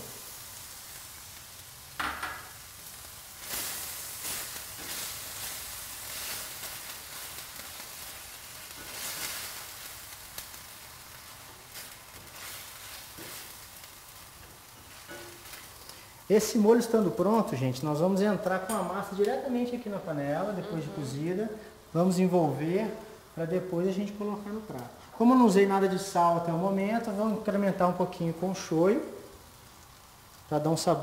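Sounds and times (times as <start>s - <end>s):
sauce sizzling in a skillet: 0.0s - 31.0s.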